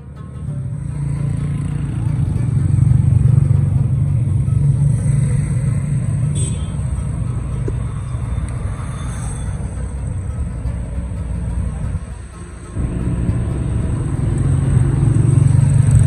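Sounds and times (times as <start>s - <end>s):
passing cars: 0.0s - 16.0s
vehicle engine rumble: 0.0s - 16.0s.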